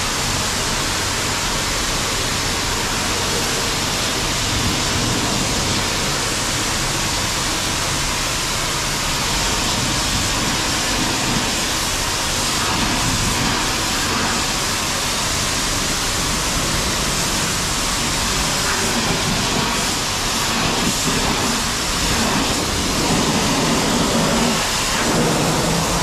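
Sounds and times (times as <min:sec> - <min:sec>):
pressure washer spraying water: 0:00.0 - 0:26.0.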